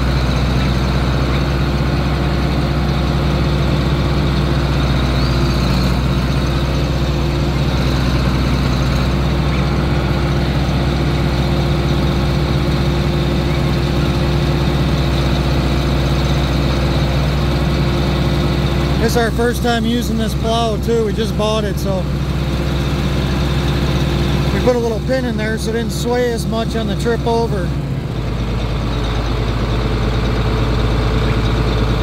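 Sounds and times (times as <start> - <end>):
tractor diesel engine idling: 0.0 - 32.0.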